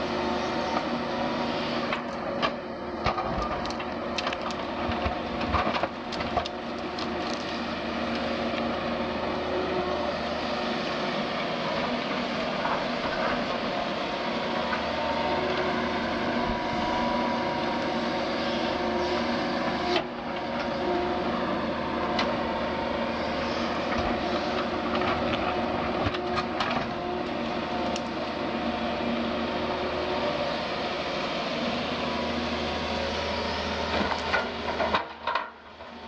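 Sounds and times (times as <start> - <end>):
excavator engine and hydraulics humming: 0.0 - 36.0.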